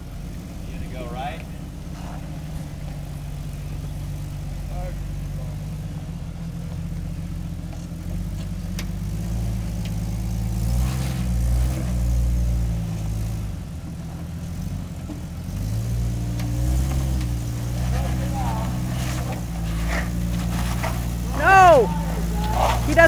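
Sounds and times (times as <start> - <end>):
car engine revving at low speed: 0.0 - 23.0.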